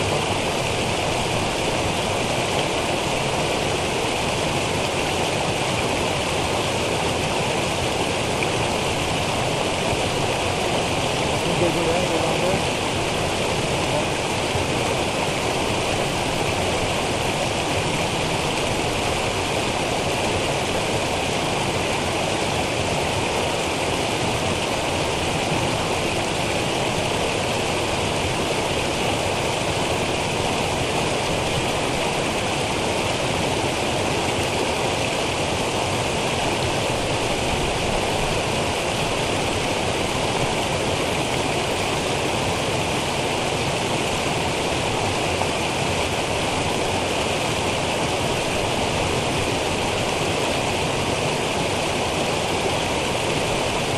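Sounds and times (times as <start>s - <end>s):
water cascading over rocks: 0.0s - 53.9s.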